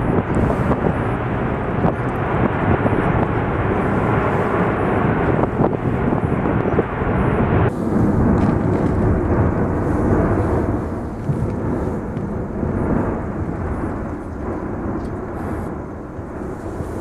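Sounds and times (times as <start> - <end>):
volcanic eruption rushing: 0.0 - 17.0.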